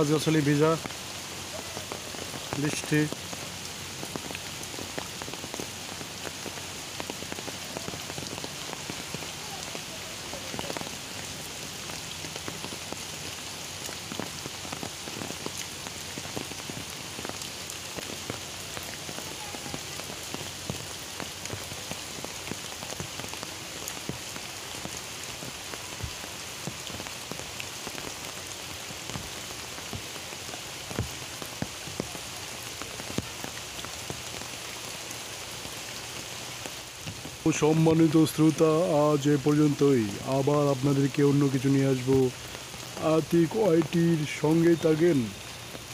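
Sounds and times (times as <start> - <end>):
heavy rain on umbrella: 0.0 - 45.9.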